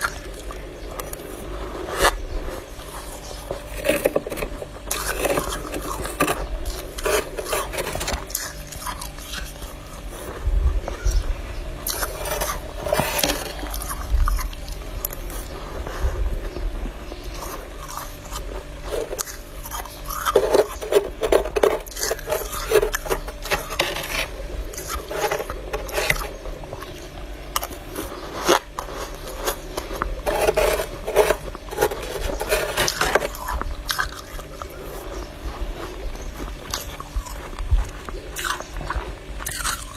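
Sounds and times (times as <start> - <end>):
frost scraping and crunching: 0.0 - 39.9.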